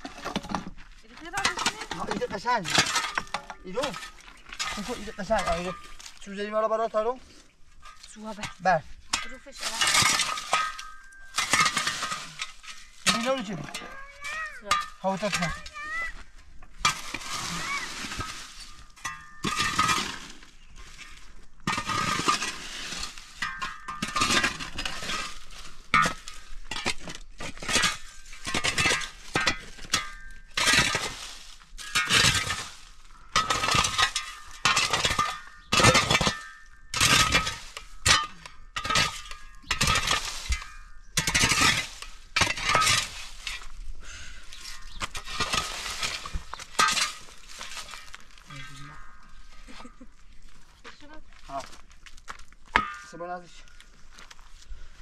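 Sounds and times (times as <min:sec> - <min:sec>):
metal digging tool scraping gravel: 0:00.0 - 0:55.0.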